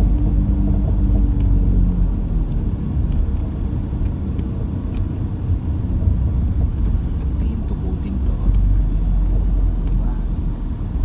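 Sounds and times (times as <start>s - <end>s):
engine hum: 0.0s - 11.0s
vehicle cabin rumble: 0.0s - 11.0s.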